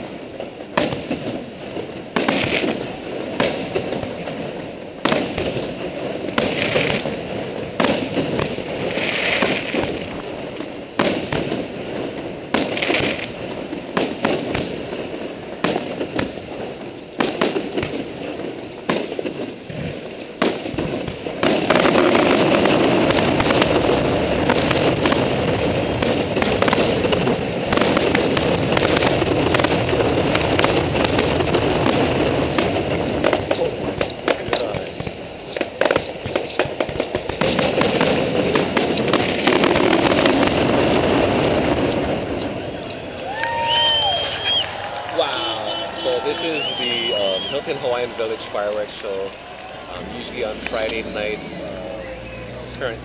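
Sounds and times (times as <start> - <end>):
fireworks bursting with bangs: 0.0 - 53.0
fireworks crackling: 0.0 - 53.0.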